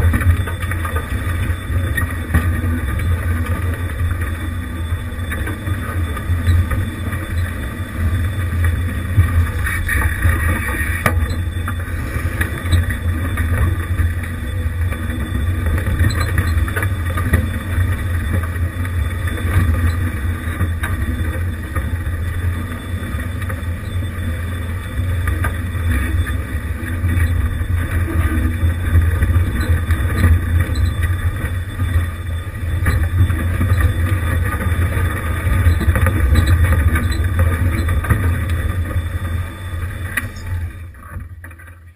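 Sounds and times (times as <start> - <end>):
off-road vehicle engine droning: 0.0 - 41.9.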